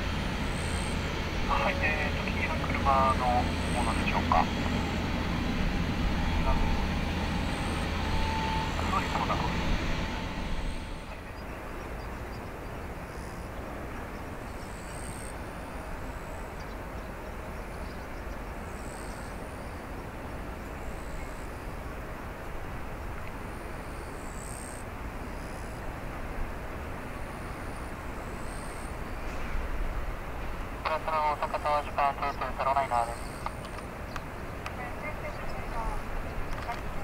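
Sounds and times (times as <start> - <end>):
jet airliner taxiing: 0.0 - 37.0.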